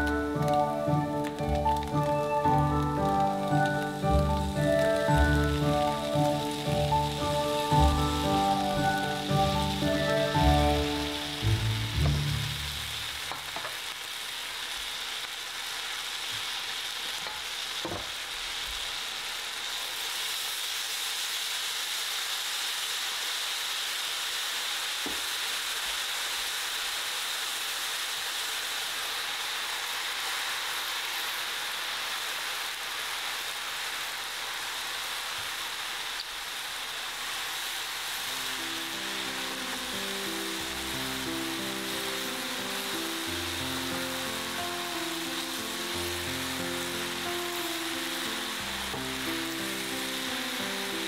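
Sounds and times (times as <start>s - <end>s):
noodles sizzling in frying pan: 0.0s - 51.0s.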